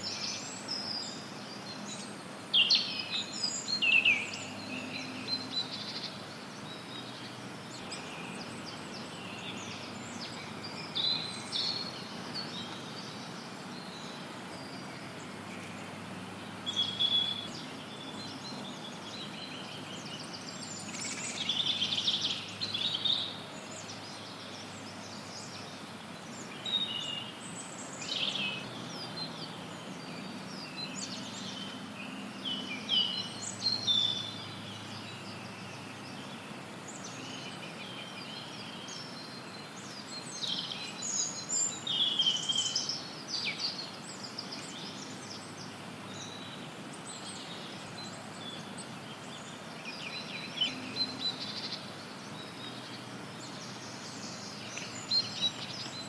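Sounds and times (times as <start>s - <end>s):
background noise hiss: 0.0s - 56.0s
songbirds calling and chirping: 0.0s - 56.0s.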